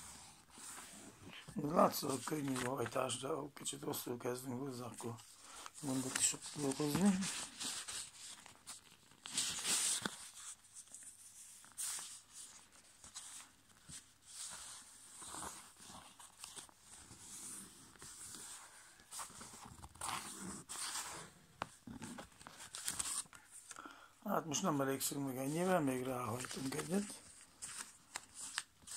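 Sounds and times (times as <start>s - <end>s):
paper rustling and creasing: 0.0s - 3.2s, 4.7s - 23.8s, 25.0s - 28.9s.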